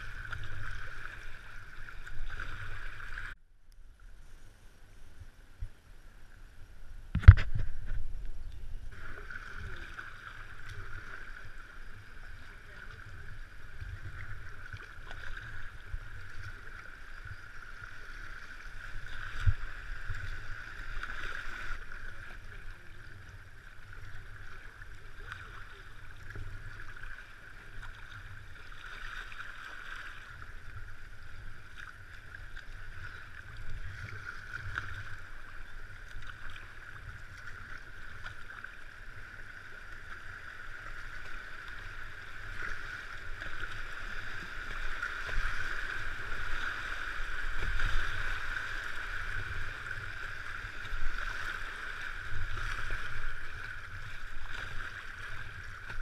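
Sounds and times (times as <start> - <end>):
river water hissing past hull: 8.8 - 56.0.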